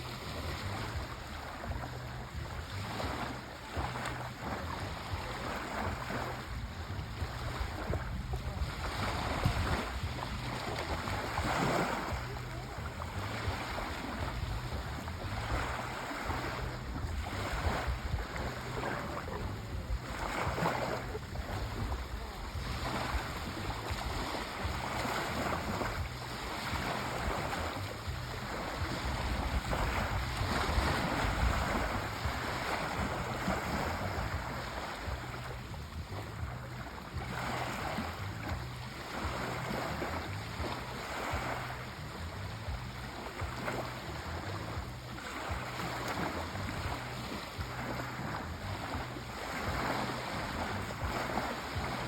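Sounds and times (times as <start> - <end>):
sea waves washing on shore: 0.0 - 52.0.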